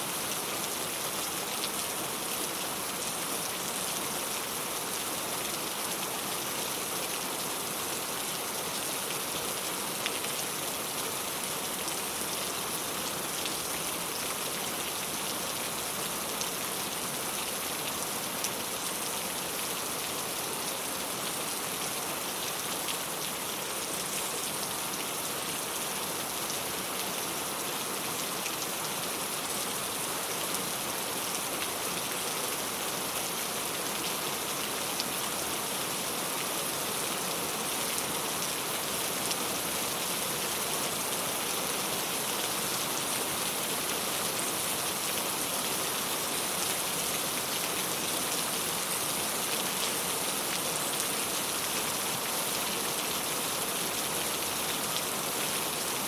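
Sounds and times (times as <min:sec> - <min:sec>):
rain on a tile roof: 0:00.0 - 0:56.0.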